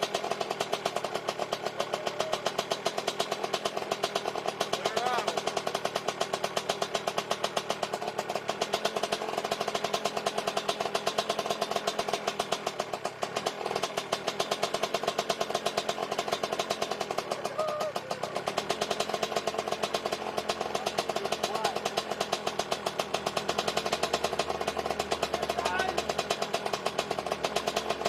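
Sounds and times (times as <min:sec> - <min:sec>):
two-stroke engine puttering: 0:00.0 - 0:28.0.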